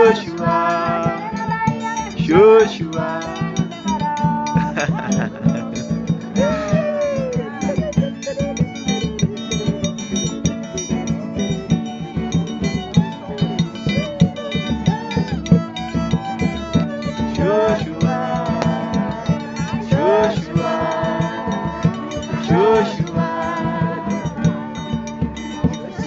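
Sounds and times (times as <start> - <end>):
guitar strumming: 0.0 - 26.0
percussion beat: 0.0 - 26.0
voices singing: 0.0 - 26.0.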